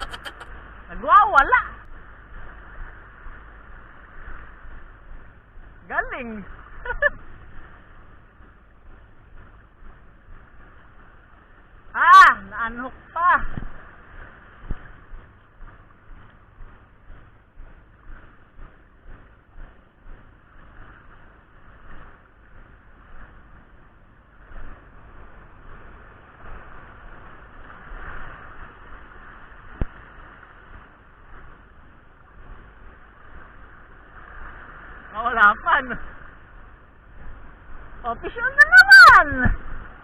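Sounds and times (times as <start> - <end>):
surf on a beach: 0.0 - 40.0
wind buffeting microphone: 0.0 - 40.0.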